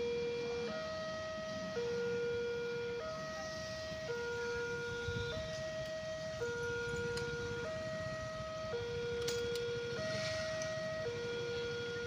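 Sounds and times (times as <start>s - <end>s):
two-tone level crossing alarm: 0.0s - 12.0s.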